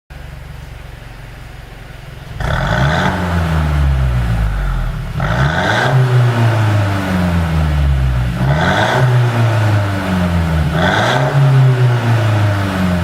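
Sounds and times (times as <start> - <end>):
car engine idling and revving: 0.2 - 13.0.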